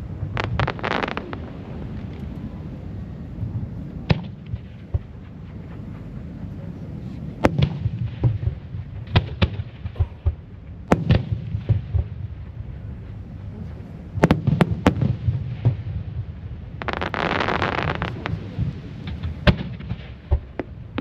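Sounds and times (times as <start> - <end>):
fireworks bursting with sharp bangs: 0.0 - 2.6, 4.0 - 6.5, 7.2 - 13.2, 14.1 - 21.0
low rumble: 0.0 - 16.9.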